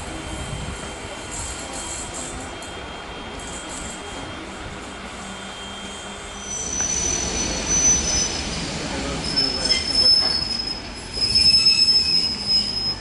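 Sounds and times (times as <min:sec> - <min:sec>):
train rumble: 0:00.0 - 0:13.0
train wheels squealing: 0:00.3 - 0:13.0.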